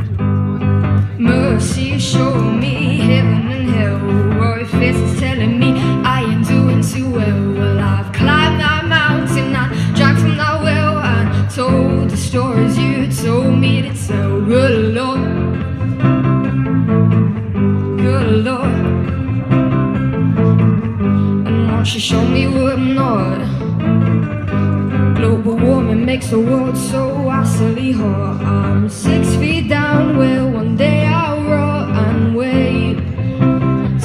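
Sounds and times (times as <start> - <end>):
guitar strumming chords: 0.0 - 34.0
woman singing: 1.0 - 16.0, 17.8 - 19.3, 21.0 - 24.3, 24.9 - 34.0.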